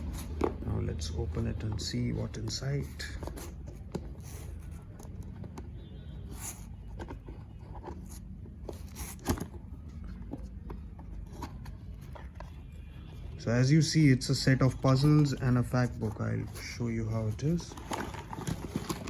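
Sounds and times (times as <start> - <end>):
cardboard scraping and rustling: 0.0 - 19.0.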